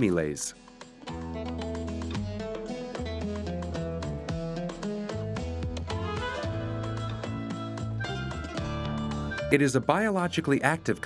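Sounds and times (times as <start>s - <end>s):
plucked strings music: 1.0s - 11.0s.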